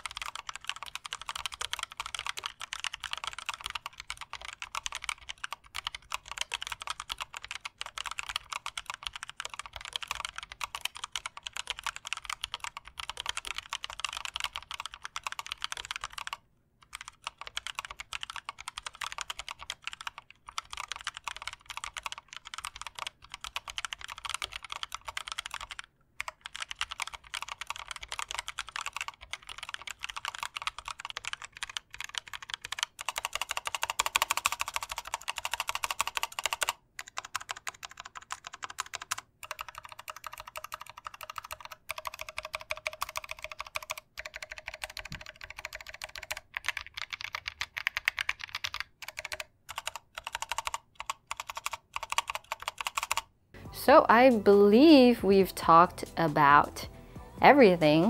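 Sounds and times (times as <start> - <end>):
mechanical keyboard typing: 0.0 - 53.3.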